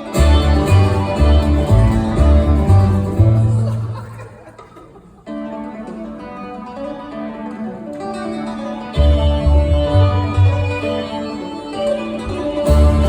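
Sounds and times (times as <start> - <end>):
acoustic folk band playing: 0.0 - 13.0.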